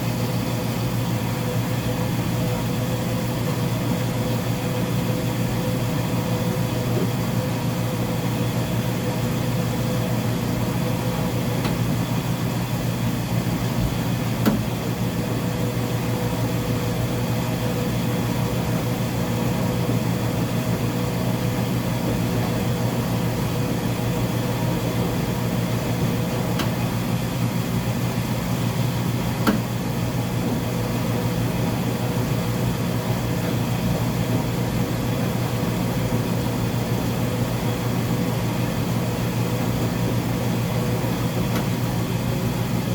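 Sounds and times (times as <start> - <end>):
washing machine hum: 0.0 - 42.9.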